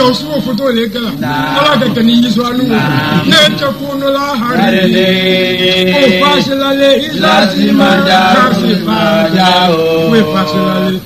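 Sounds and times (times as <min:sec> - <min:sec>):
person chanting recitation: 0:01.2 - 0:11.0.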